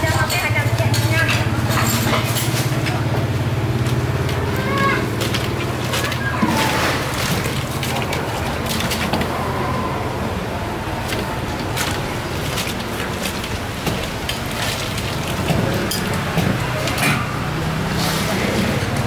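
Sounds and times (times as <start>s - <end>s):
metal pots and utensils clinking: 0.0s - 9.6s, 11.0s - 19.0s.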